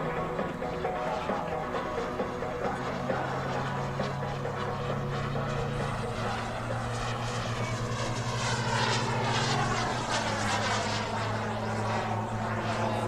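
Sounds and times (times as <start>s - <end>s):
model aircraft engine flying past: 0.0s - 13.0s
steady low hum: 0.0s - 13.0s.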